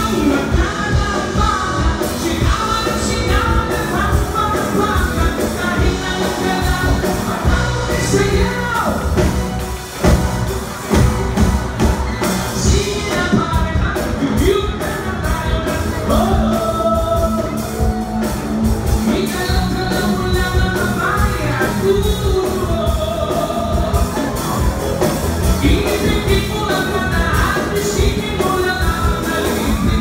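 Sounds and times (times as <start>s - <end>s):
person singing: 0.0s - 9.6s, 12.2s - 30.0s
drums: 0.0s - 30.0s
electric guitars: 0.0s - 30.0s.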